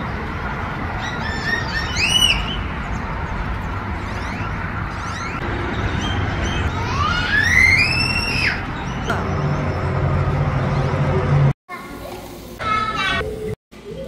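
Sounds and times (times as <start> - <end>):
low rumble of traffic: 0.0 - 11.6.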